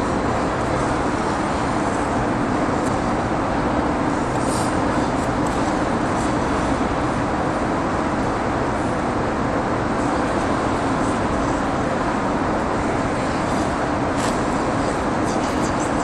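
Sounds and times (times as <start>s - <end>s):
ventilation machinery rushing: 0.0s - 16.0s.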